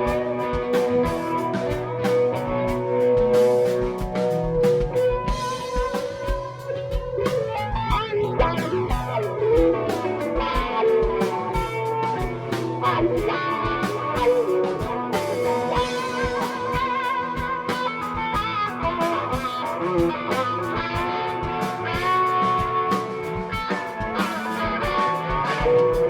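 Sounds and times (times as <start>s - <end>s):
bass: 0.0s - 26.0s
electric guitar with bent notes: 0.0s - 26.0s.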